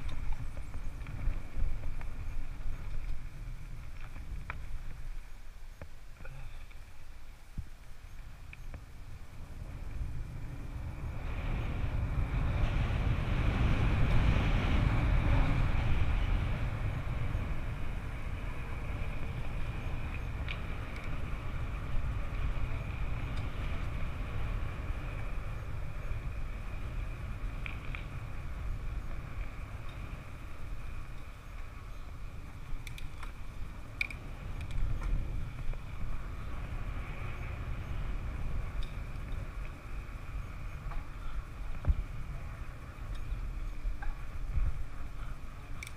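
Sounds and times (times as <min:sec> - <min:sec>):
bike clicks and rattles: 0:00.0 - 0:10.9, 0:12.0 - 0:45.9
bike tyre noise on dirt: 0:00.0 - 0:45.9
wind rumble: 0:00.0 - 0:45.9.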